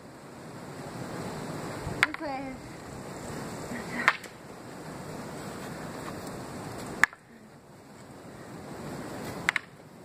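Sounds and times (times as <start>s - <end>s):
wind noise on microphone: 0.0s - 10.0s.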